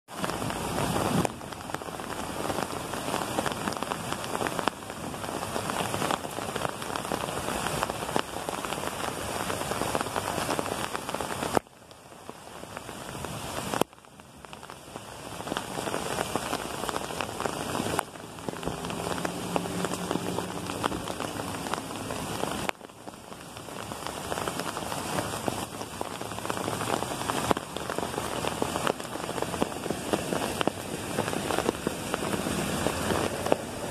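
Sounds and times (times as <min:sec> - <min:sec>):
hail and rain striking the ground: 0:00.1 - 0:33.9.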